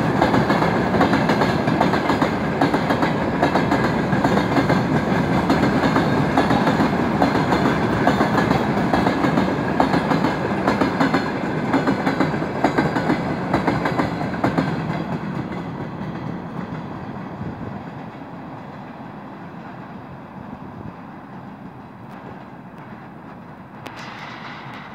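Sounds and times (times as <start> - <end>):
freight train wheels clacking: 0.0 - 19.9, 20.9 - 24.9.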